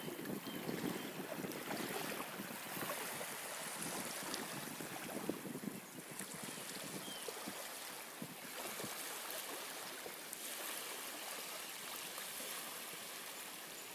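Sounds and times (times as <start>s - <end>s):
small waves lapping on pebbles: 0.0s - 13.9s.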